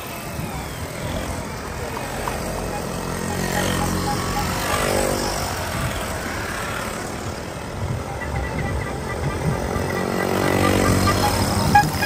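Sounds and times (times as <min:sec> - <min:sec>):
moped engines buzzing past: 0:00.0 - 0:12.0.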